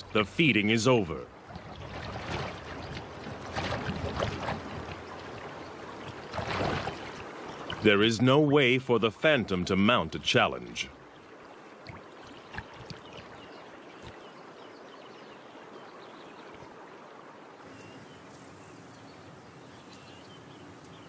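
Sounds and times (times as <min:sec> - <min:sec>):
river water washing: 0:00.0 - 0:21.0
small water splashes: 0:01.2 - 0:18.9.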